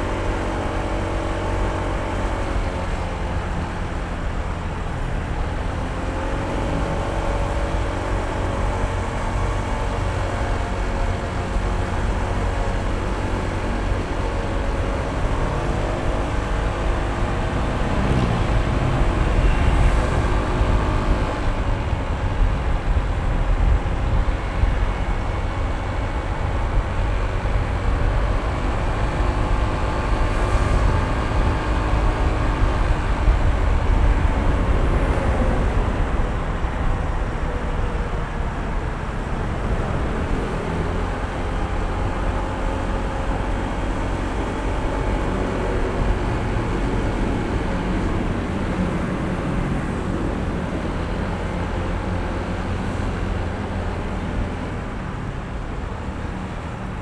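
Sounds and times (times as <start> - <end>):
scooter engine running: 0.0 - 55.7
wind and road noise: 0.0 - 57.0.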